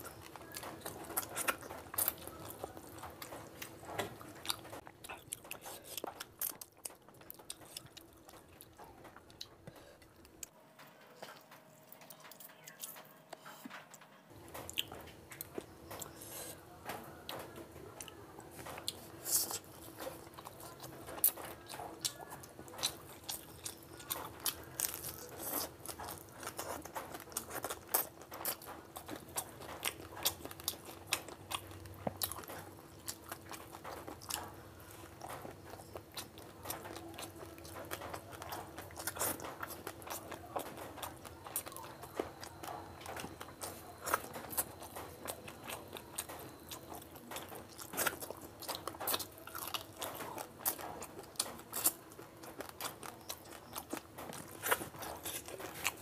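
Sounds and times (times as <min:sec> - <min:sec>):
person chewing food: 0:00.0 - 0:10.6, 0:14.3 - 0:56.0
faint steady hum: 0:00.0 - 0:56.0.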